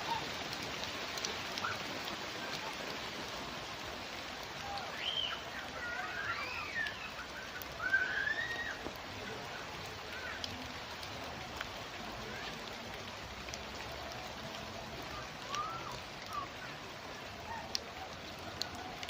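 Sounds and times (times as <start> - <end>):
light drizzle hissing: 0.0 - 19.0
raindrop ticks: 0.0 - 19.0.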